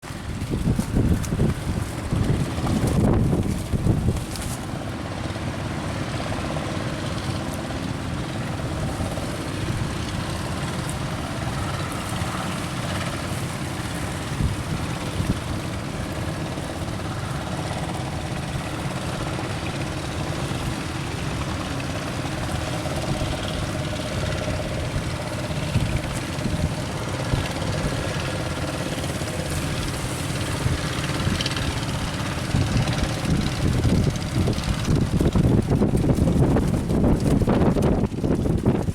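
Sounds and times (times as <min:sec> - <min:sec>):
boat engine running: 0:00.0 - 0:38.9
wind on microphone: 0:00.0 - 0:38.9.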